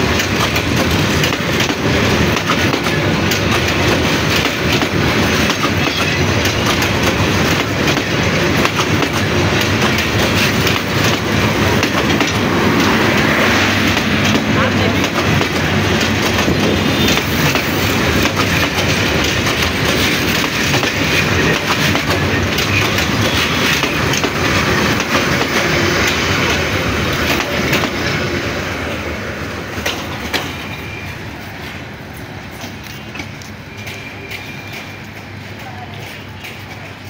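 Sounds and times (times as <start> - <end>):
wheels clacking over rail joints: 0.0 - 29.0, 29.6 - 31.0
train rumbling past: 0.0 - 37.0.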